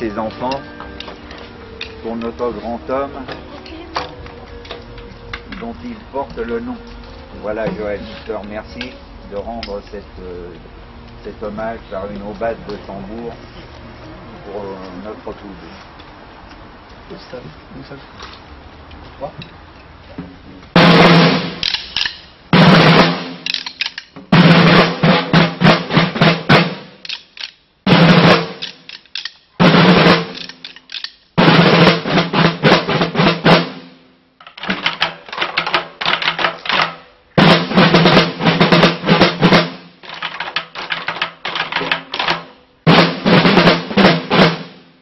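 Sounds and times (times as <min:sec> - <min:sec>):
field drums playing rolls: 0:00.0 - 0:13.5, 0:20.1 - 0:27.2, 0:27.8 - 0:45.0.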